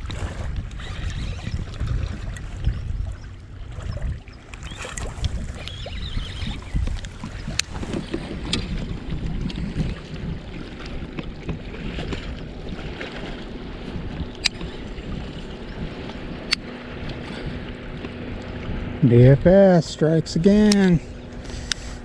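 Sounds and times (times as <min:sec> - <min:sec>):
wind on microphone: 0:00.0 - 0:19.6
water and movement on a kayak: 0:00.0 - 0:22.0.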